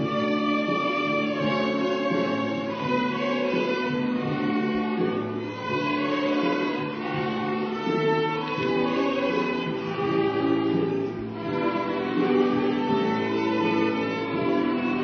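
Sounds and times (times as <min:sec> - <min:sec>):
violins bowing sustained notes: 0:00.0 - 0:15.0.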